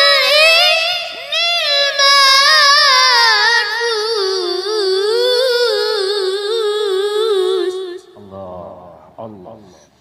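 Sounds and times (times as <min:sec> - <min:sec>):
boy reciting melodically: 0:00.0 - 0:09.8.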